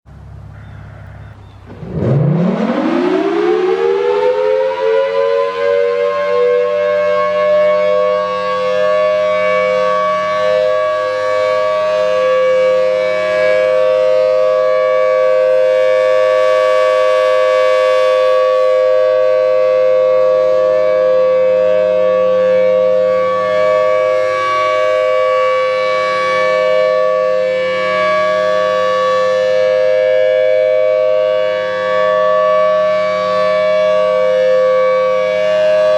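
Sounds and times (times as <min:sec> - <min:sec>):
warning siren: 0:00.2 - 0:35.9.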